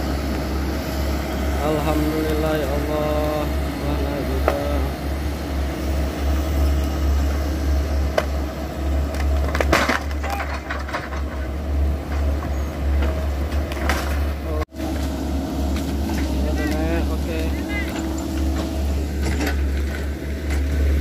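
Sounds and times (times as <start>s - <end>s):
excavators rumbling under load: 0.0s - 21.0s.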